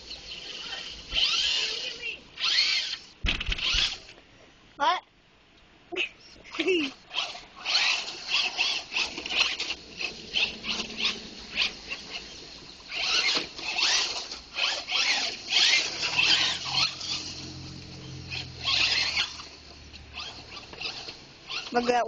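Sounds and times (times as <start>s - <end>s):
rc truck motor whining: 0.0s - 4.2s, 6.5s - 22.0s.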